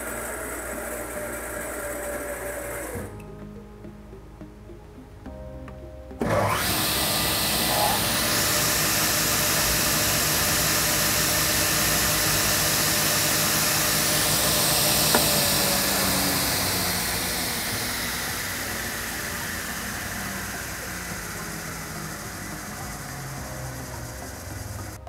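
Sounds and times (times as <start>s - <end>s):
table saw blade whirring: 0.0s - 3.2s, 6.2s - 25.0s.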